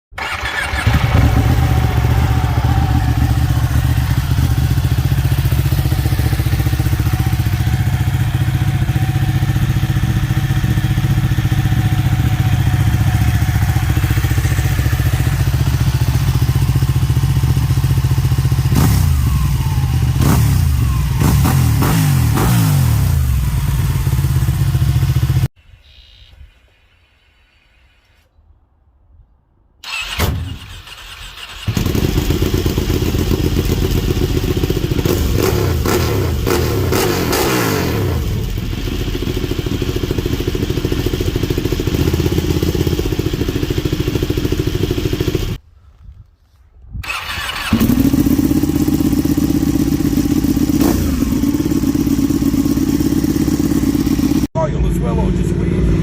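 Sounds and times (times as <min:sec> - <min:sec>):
motorcycle engine idling: 0:00.2 - 0:21.6, 0:22.8 - 0:25.5, 0:31.6 - 0:37.0, 0:38.1 - 0:45.6, 0:47.3 - 0:56.0
motorcycle throttle revs: 0:00.2 - 0:25.5, 0:31.5 - 0:45.6, 0:47.0 - 0:54.5.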